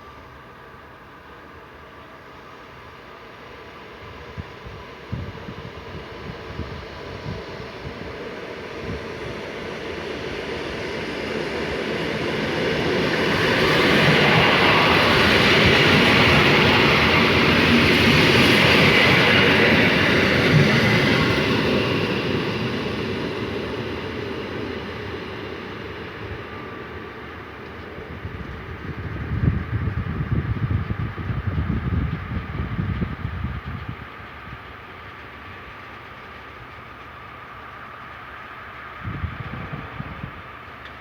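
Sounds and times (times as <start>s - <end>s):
passenger train passing: 0.0s - 41.0s.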